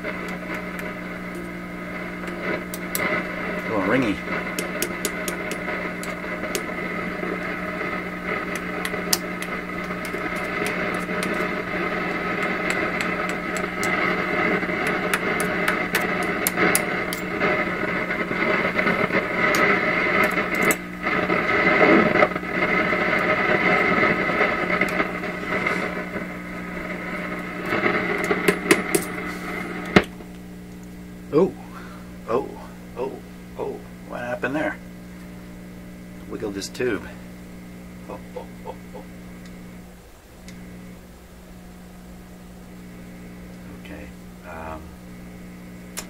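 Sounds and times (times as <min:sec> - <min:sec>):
low hum: 0:00.0 - 0:46.0
radio static: 0:00.0 - 0:46.0
sharp crackles: 0:00.0 - 0:46.0.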